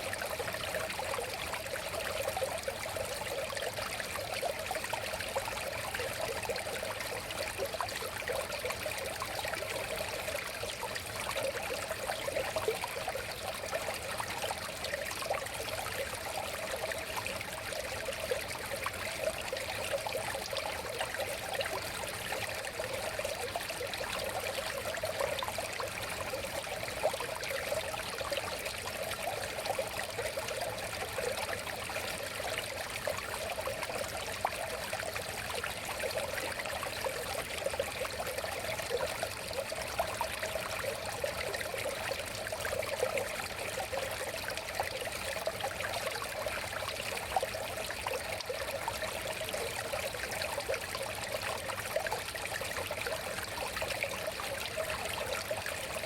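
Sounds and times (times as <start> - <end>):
water trickles and splashes: 0.0 - 56.0.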